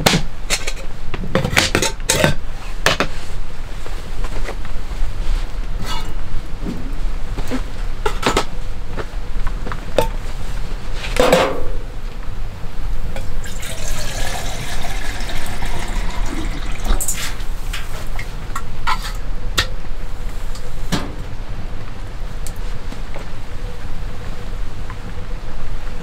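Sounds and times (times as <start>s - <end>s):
steady low rumble: 2.4s - 13.5s, 15.5s - 26.0s.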